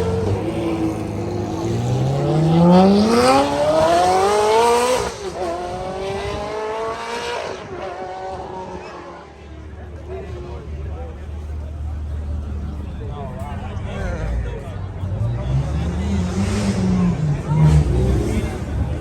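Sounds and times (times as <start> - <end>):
car engine accelerating hard: 0.0 - 10.6, 13.9 - 19.0.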